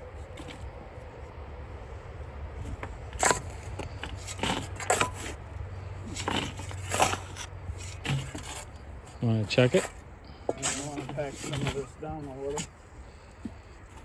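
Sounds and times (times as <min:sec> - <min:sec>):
low engine hum: 0:00.0 - 0:14.0
shovels scraping gravel: 0:02.6 - 0:14.0.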